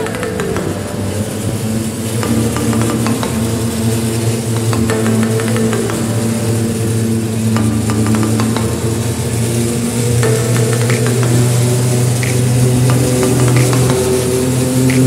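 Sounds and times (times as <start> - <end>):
cable car mechanical hum: 0.0 - 15.0.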